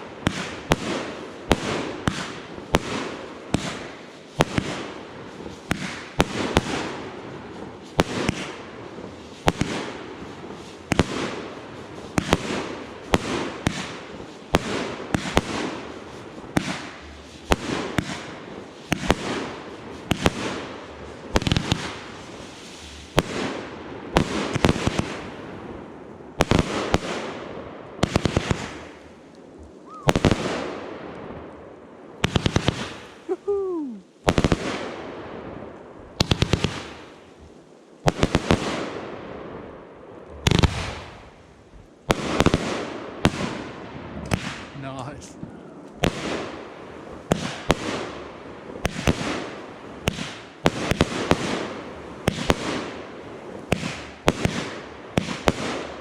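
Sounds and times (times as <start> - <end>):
crackle of fireworks: 0.0 - 56.0
fireworks bursting: 0.0 - 56.0.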